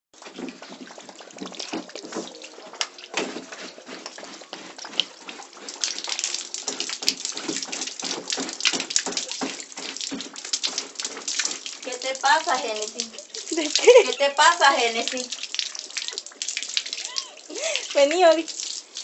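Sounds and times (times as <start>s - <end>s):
water running and splashing: 0.2s - 19.0s.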